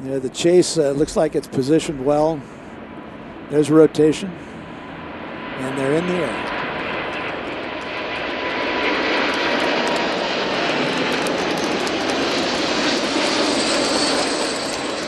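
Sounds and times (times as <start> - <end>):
faint high whine: 0.0 - 8.4, 10.4 - 15.0
loud jet roar: 0.0 - 15.0.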